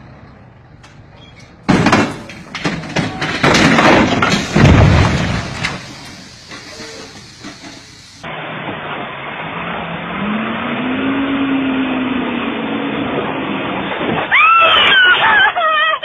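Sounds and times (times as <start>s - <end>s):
vehicle engine: 0.0s - 14.3s
road noise: 0.0s - 16.0s.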